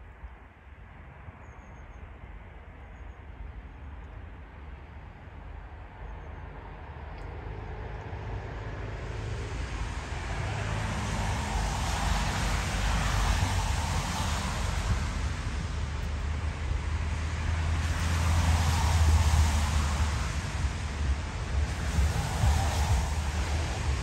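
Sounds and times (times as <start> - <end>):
wind gusting across microphone: 0.0 - 24.0.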